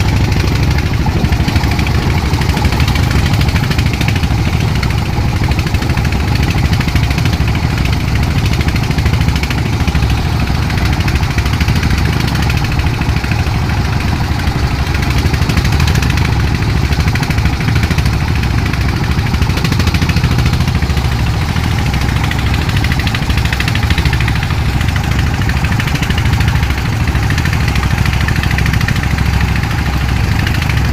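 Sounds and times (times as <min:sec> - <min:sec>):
boat engine rumbling: 0:00.0 - 0:30.9.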